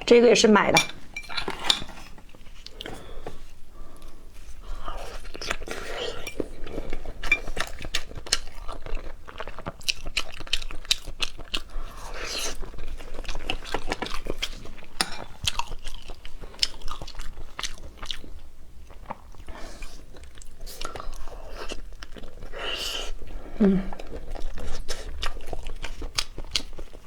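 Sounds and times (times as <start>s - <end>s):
soft chewing: 0.9s - 27.0s.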